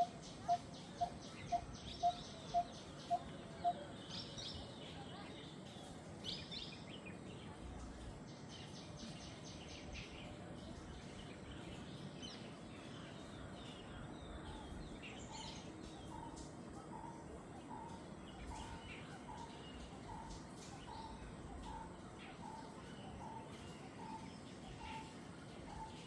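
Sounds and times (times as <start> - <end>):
jungle birds calling: 0.0 - 7.7, 8.3 - 26.0
steady background hiss: 0.0 - 26.0.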